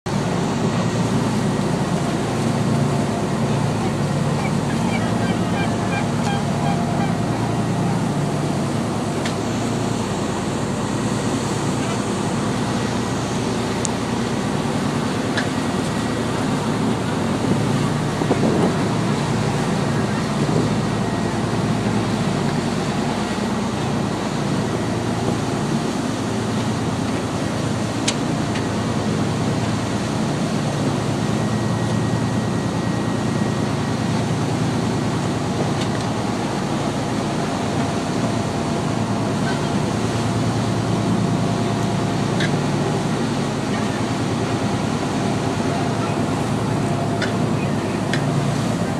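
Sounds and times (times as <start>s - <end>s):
boat engine running: 0.1s - 48.9s
wind and water rushing: 0.1s - 48.9s.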